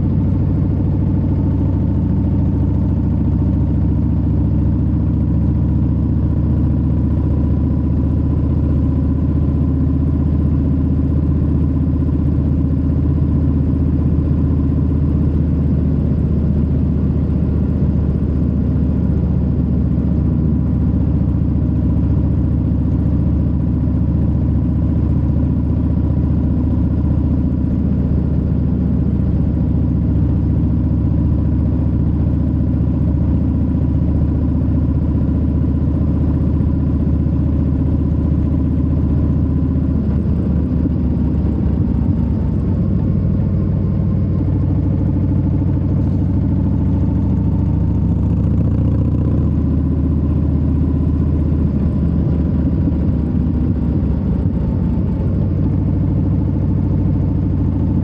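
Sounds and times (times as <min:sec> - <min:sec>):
motorcycle engine running steadily: 0:00.0 - 0:58.0.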